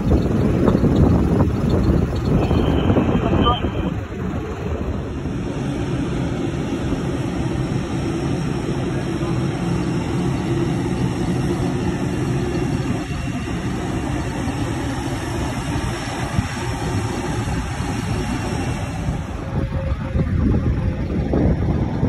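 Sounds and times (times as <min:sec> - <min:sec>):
jet engines droning: 0:00.0 - 0:22.0.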